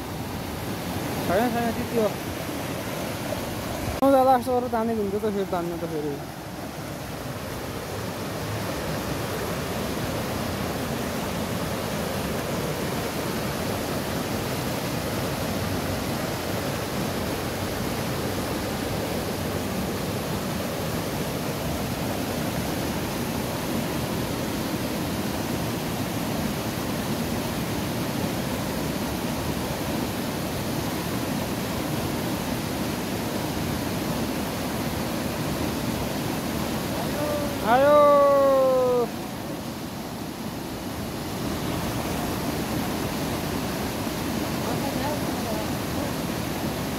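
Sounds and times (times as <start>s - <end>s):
water rushing over boulders: 0.0s - 46.9s.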